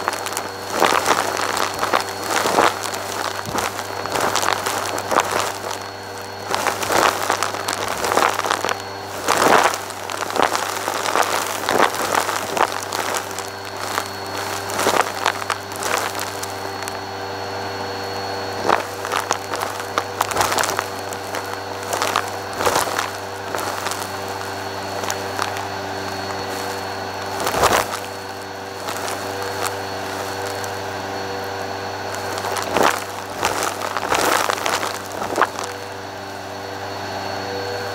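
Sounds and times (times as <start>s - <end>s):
debris crackling in vacuum hose: 0.0s - 37.9s
vacuum cleaner running: 0.0s - 37.9s.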